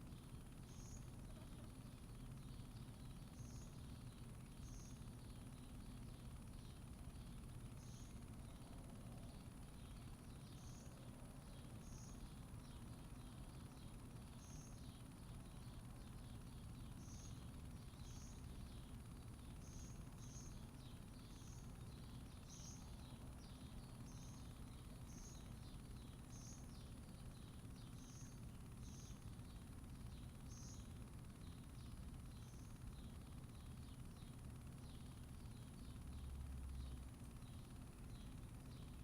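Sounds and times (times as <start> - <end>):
bird chirping: 0.1 - 39.0.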